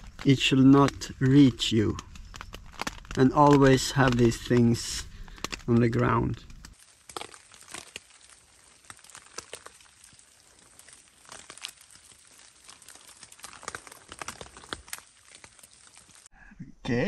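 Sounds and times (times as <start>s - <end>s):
material crinkling and rustling: 0.0s - 16.3s.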